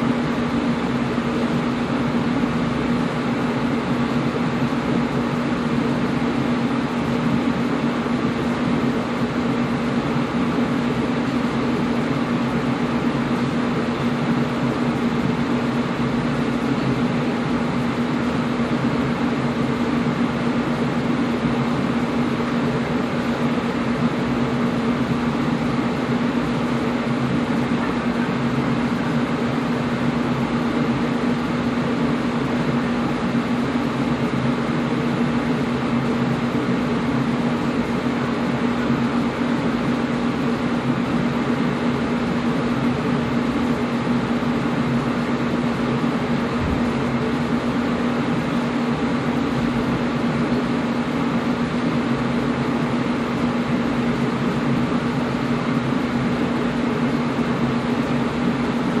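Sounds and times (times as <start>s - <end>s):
air conditioner running: 0.0s - 59.0s.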